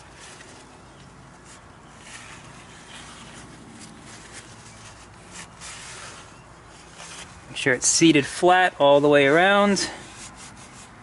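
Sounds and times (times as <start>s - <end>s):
rag and gloved hands rustling: 0.0s - 8.4s, 9.1s - 11.0s.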